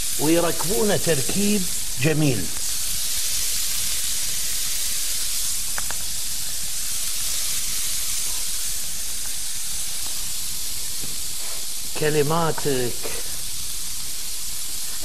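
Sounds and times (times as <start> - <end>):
shrimp sizzling on griddle: 0.0 - 15.0.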